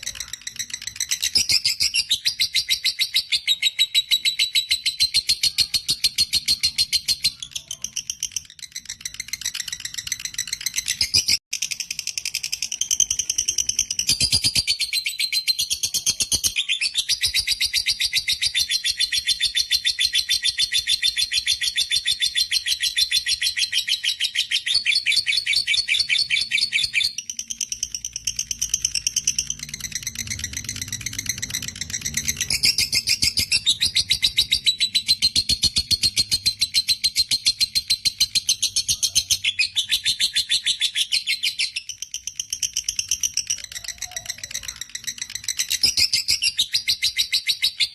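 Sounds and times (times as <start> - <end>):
lovebird shrill rapid chatter: 0.0 - 47.9.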